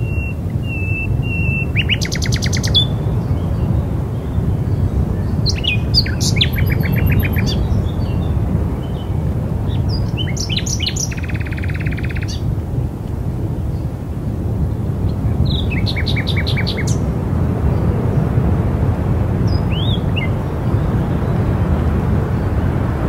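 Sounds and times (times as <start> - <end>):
birds chirping: 0.0 - 12.5, 14.8 - 18.2, 19.4 - 23.0
steady low rumble: 0.0 - 23.0.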